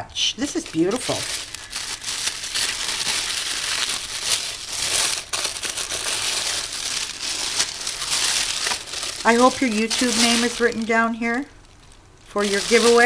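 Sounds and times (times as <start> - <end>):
tissue paper crinkling: 0.4 - 13.0.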